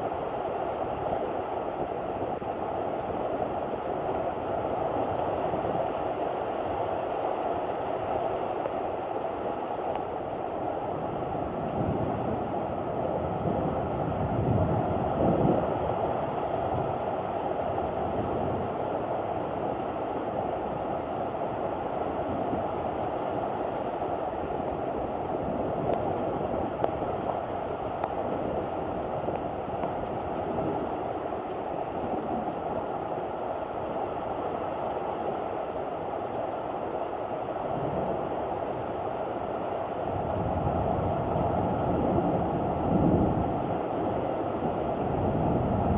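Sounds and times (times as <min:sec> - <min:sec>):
heavy rain downpour: 0:00.0 - 0:45.9
storm wind: 0:00.0 - 0:45.9.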